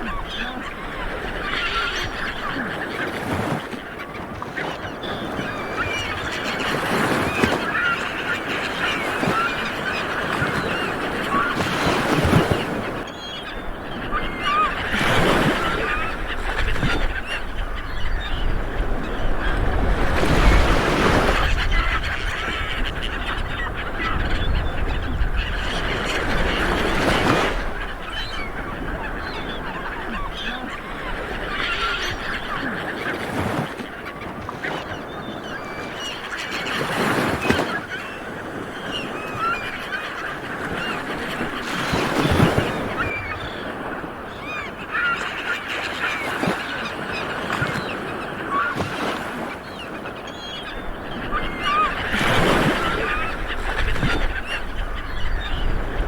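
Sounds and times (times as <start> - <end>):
birds calling: 0.0 - 56.0
small waves breaking: 0.0 - 56.0.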